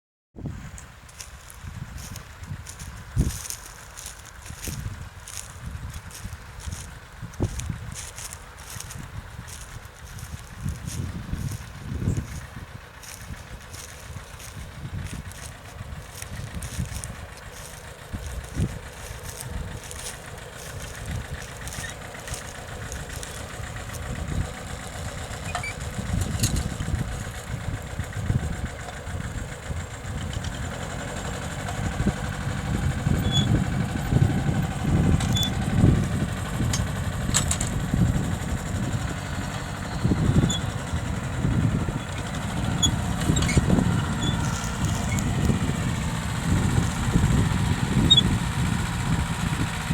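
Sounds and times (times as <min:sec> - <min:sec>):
tractor engine rumbling: 0:00.4 - 0:49.9.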